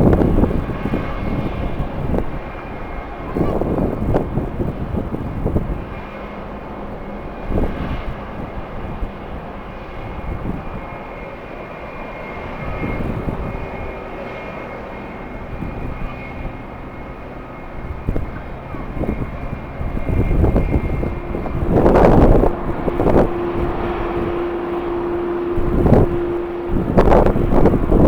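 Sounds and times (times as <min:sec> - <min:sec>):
jet engines whining: 0:00.0 - 0:28.0
wind buffeting microphone: 0:00.0 - 0:28.0.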